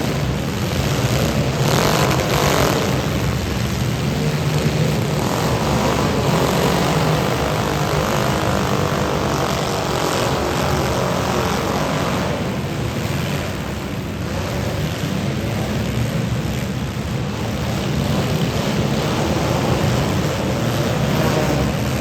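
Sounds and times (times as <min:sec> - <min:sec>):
loud car engines droning: 0:00.0 - 0:22.0.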